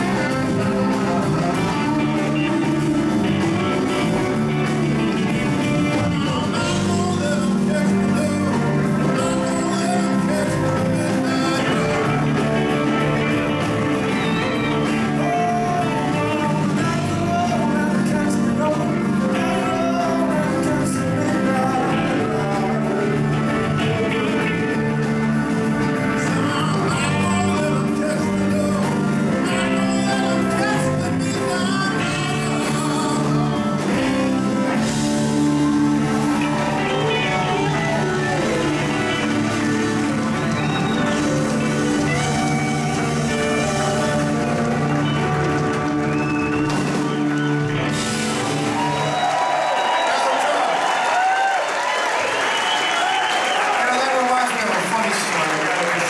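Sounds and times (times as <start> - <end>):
man singing: 0.0 - 45.4
electric guitars: 0.0 - 53.7
drums: 0.0 - 56.0.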